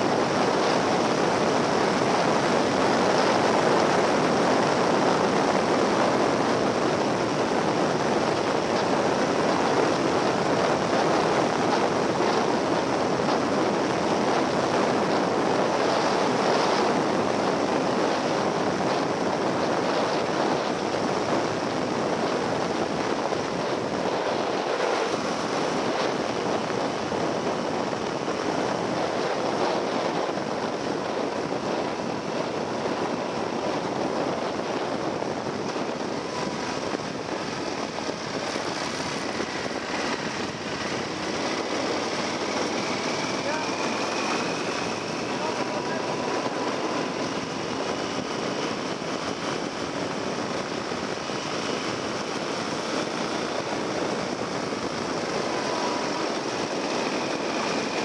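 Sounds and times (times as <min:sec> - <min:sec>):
motorcycle road noise: 0:00.0 - 0:58.0
wind rush over microphone: 0:00.0 - 0:58.0.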